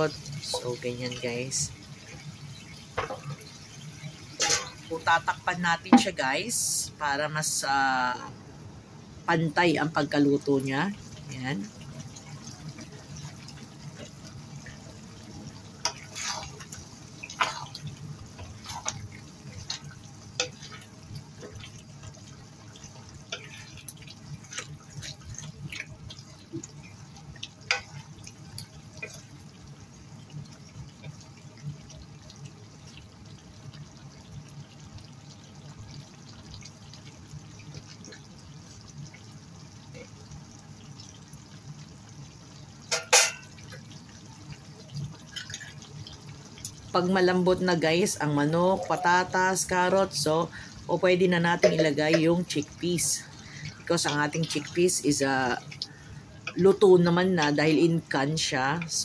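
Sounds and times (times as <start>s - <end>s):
low background hum: 0.0s - 59.0s
sauce bubbling and popping: 1.6s - 4.9s, 10.9s - 58.2s.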